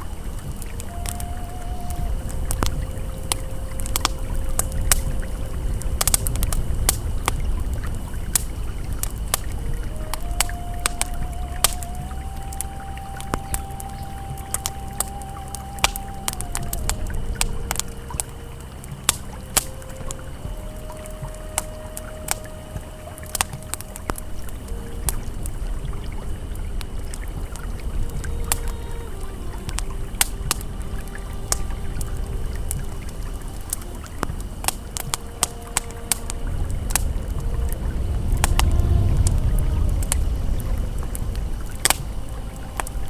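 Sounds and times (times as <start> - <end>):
campfire crackling and popping: 0.0 - 43.0
river flowing: 0.0 - 43.0
soft ambient tones: 0.0 - 43.0.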